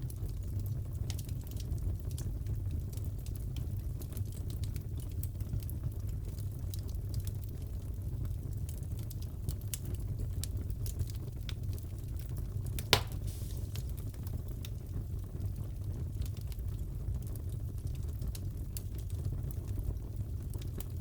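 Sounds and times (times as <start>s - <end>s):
low rumble of flames: 0.0s - 21.0s
fire popping and cracking: 0.2s - 21.0s.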